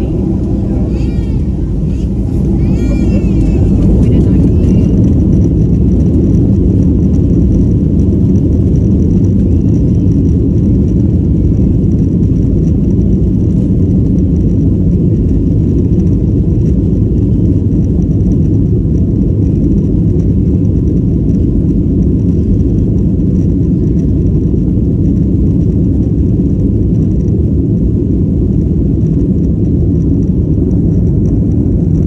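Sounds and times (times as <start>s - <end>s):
jet engines at takeoff: 0.0s - 32.0s.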